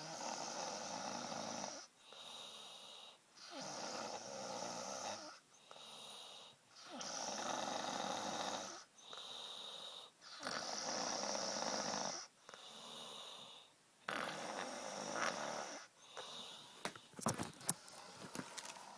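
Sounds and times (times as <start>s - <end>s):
girl snoring: 0.0s - 16.8s.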